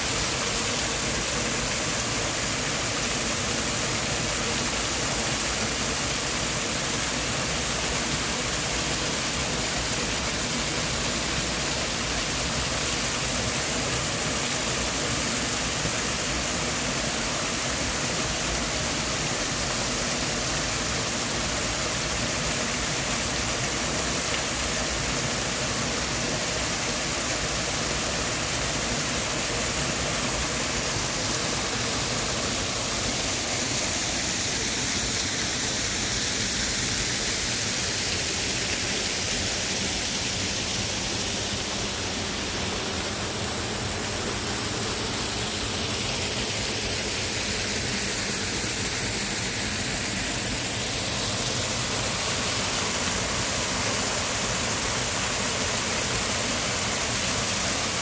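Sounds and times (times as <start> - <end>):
small waterfall pouring: 0.0 - 58.0.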